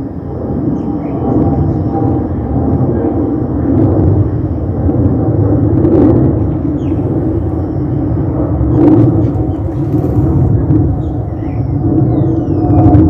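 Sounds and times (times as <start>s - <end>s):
jet airliner passing over: 0.0s - 13.0s.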